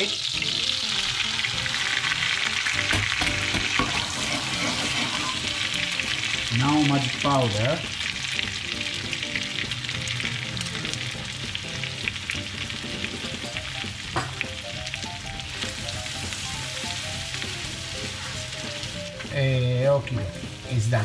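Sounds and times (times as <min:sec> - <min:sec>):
gnocchi sizzling in butter: 0:00.0 - 0:21.0.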